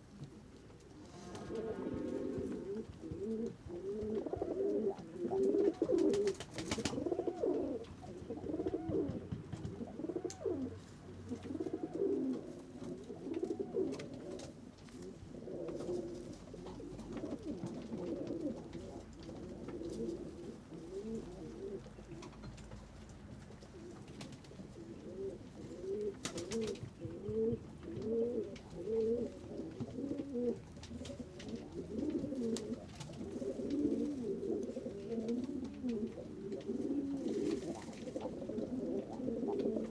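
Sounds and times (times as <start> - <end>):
pigeons cooing: 0.0 - 22.6, 23.7 - 39.9.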